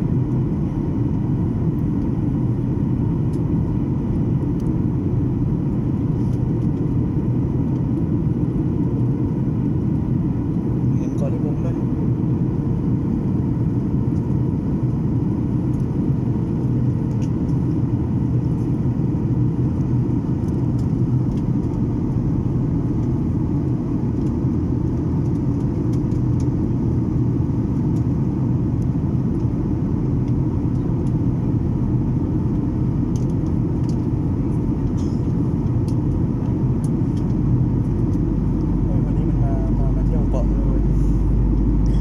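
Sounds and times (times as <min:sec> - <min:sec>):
airliner cabin engine rumble: 0:00.0 - 0:42.0
faint steady hum: 0:00.0 - 0:42.0.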